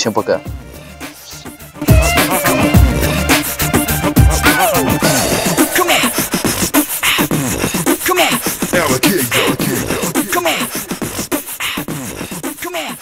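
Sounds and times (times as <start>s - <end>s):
hip-hop music with voice: 0.0s - 13.0s.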